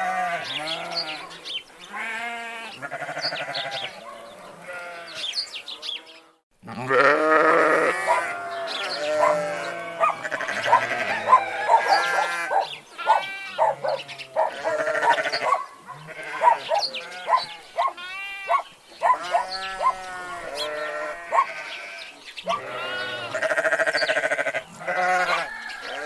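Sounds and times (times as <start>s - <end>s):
sheep bleating: 0.0s - 1.3s, 1.9s - 26.0s
farm animal calls: 0.0s - 26.0s
birds calling: 0.1s - 6.4s, 7.3s - 26.0s.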